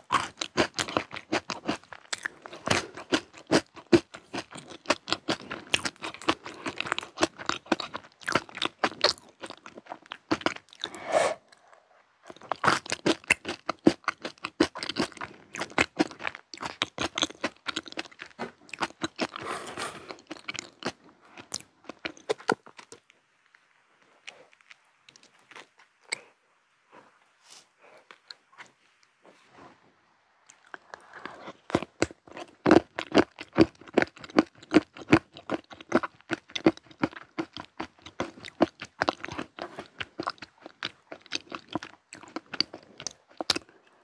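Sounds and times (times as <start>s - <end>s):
crunchy snack chewing: 0.0s - 23.1s, 24.2s - 26.3s, 30.5s - 44.0s.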